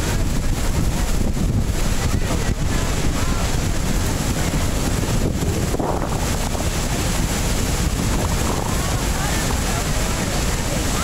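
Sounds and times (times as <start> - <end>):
waterfall roaring: 0.0 - 11.0
wind buffeting microphone: 0.0 - 11.0.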